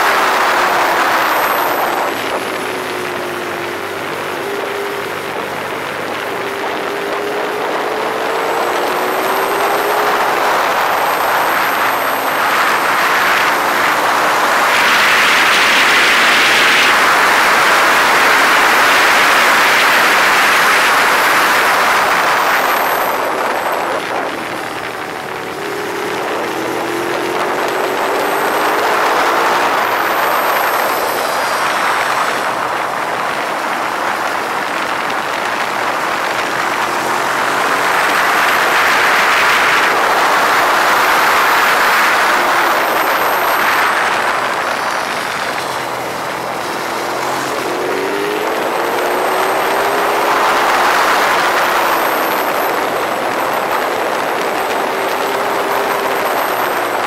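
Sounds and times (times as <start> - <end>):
motorcycle engine running hard: 0.0 - 57.0
wind rush: 0.0 - 57.0.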